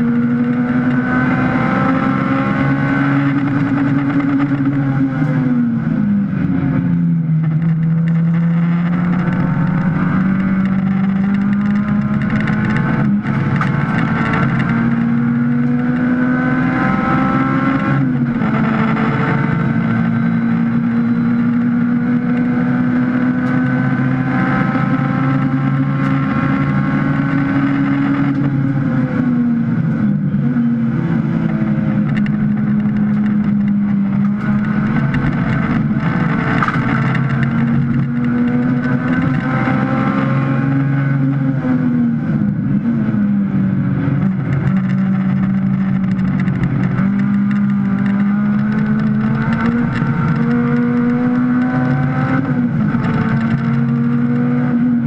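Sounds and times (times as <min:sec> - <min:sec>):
race car engine under load: 0:00.0 - 0:55.0.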